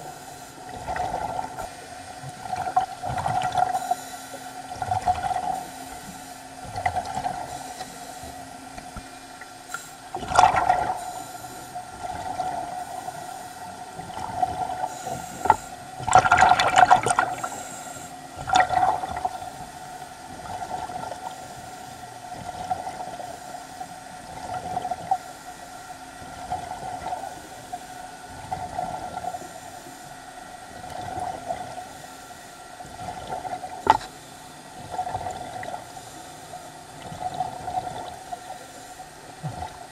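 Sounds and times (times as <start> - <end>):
steady hum: 0.0 - 39.9
underwater bubbling: 0.0 - 39.9.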